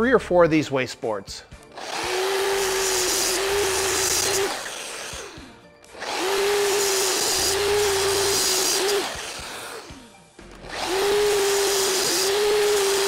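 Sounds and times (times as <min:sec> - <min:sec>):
saw blade cutting plywood: 0:01.8 - 0:10.0, 0:10.6 - 0:13.0
miter saw motor whining: 0:01.8 - 0:13.0.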